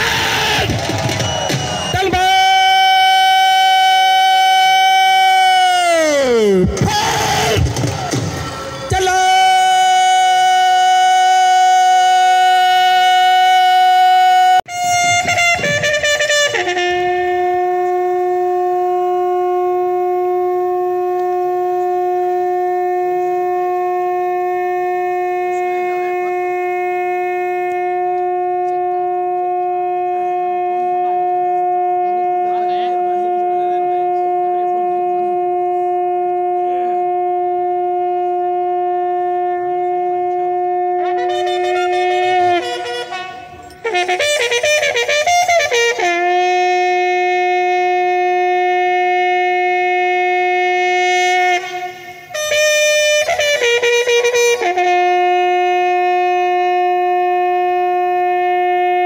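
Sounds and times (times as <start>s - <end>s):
bugle-like horn playing: 0.0s - 59.0s.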